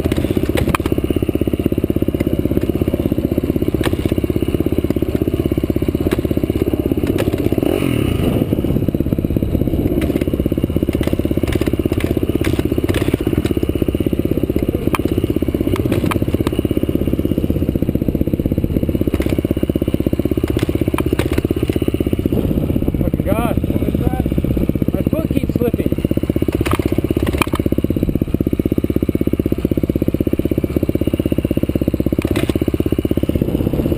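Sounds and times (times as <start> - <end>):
off-road vehicle engine running: 0.0 - 33.9.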